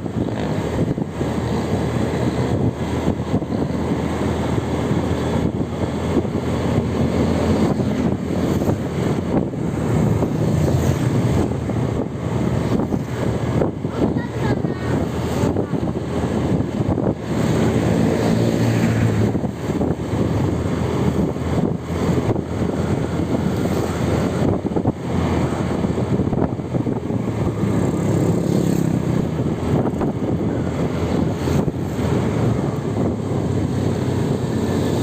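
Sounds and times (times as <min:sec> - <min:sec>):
road noise: 0:00.0 - 0:35.0
vehicle engine rumble: 0:00.0 - 0:35.0
wind buffeting microphone: 0:00.0 - 0:35.0.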